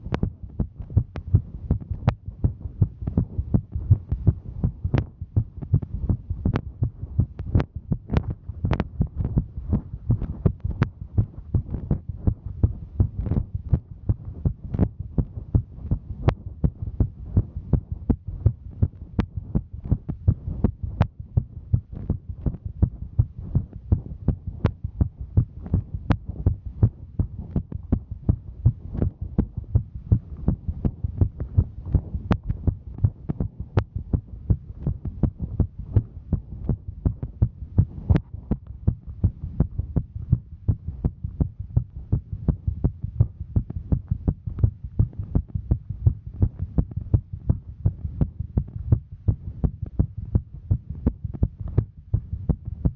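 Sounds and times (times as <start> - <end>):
heartbeat thumps: 0.0 - 52.9.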